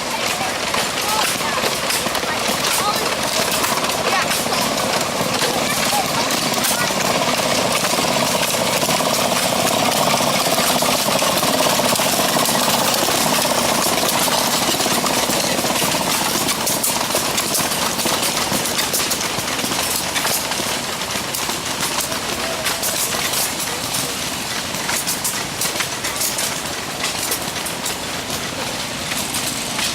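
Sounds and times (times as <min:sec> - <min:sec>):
steam engines clattering: 0:00.0 - 0:29.9.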